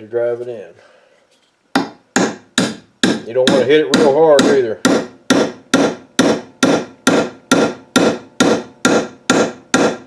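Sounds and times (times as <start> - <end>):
hammer tapping metal driver: 1.8 - 10.0.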